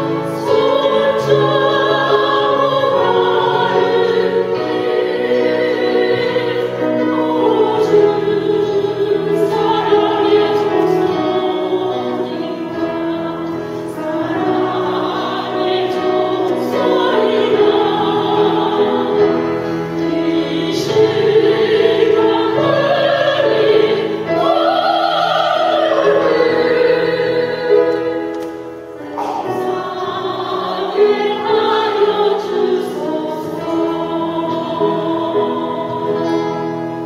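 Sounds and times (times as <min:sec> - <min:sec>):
vocal group singing a hymn: 0:00.0 - 0:37.0.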